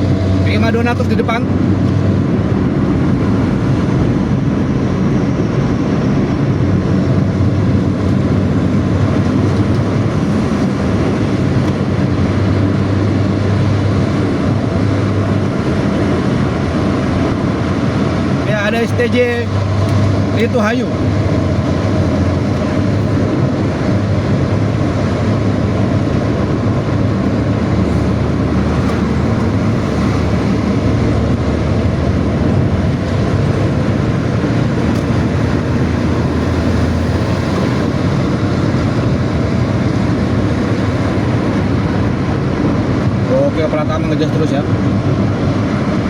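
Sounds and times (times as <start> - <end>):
bus engine with growling exhaust: 0.0 - 46.0
road and wind noise: 0.0 - 46.0.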